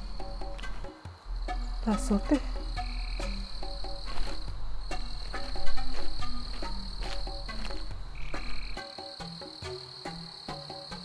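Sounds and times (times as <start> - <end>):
frogs croaking: 0.0 - 11.0
high insect trill: 0.0 - 11.0.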